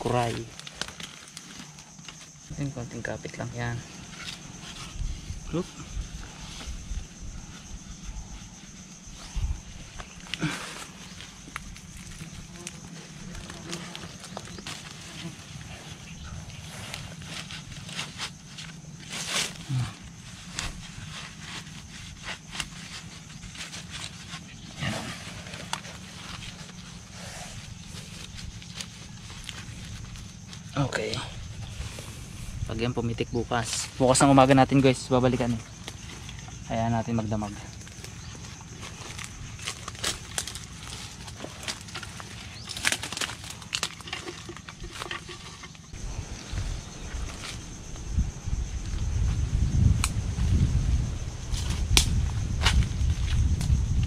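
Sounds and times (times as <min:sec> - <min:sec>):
bamboo tube rustling and scraping: 0:00.0 - 0:54.0.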